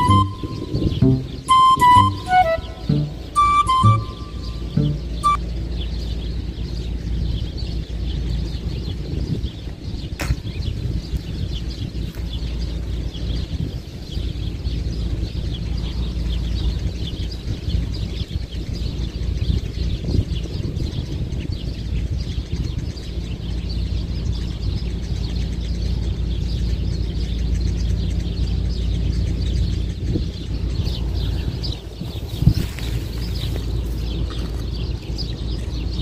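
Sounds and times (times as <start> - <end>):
wind buffeting microphone: 0.0 - 4.6, 6.4 - 36.0
small birds chirping: 0.0 - 36.0.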